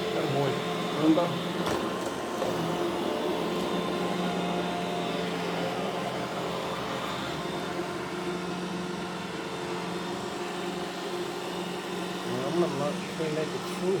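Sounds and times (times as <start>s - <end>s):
robot vacuum motor whirring: 0.0s - 14.0s.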